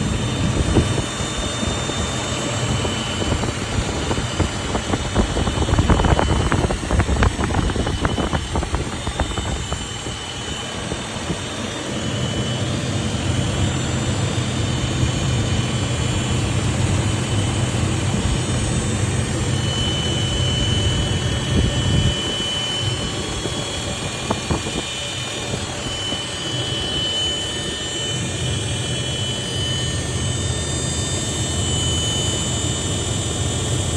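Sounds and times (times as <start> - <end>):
thin high whine: 0.0 - 33.9.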